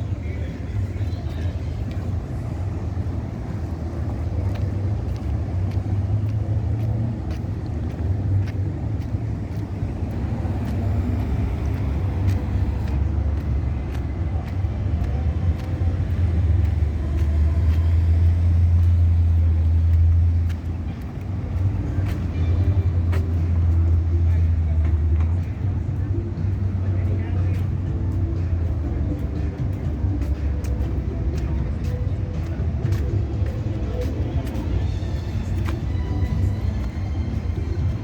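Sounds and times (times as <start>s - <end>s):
heavy low engine rumble: 0.0s - 38.0s
road traffic: 0.0s - 38.0s.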